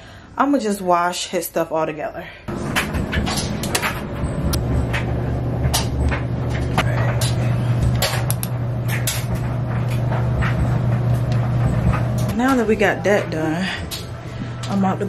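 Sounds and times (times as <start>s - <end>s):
low machine hum: 2.4s - 15.0s.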